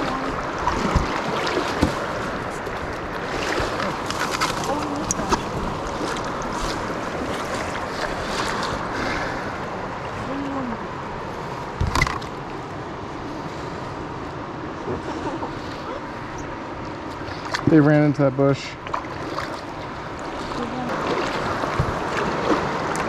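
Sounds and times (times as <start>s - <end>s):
kayak paddles splashing: 0.0s - 13.9s, 14.8s - 23.0s
moving water: 0.0s - 23.0s.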